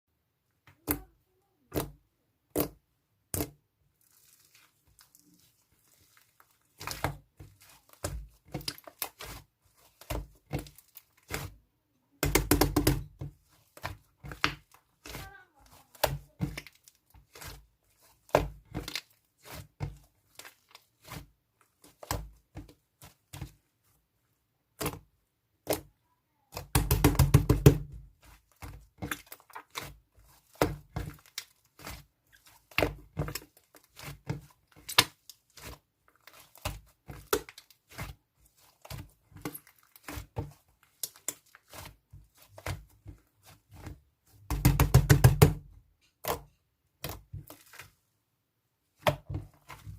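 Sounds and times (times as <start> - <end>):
slime squished by hand: 0.8 - 23.8, 24.7 - 48.2.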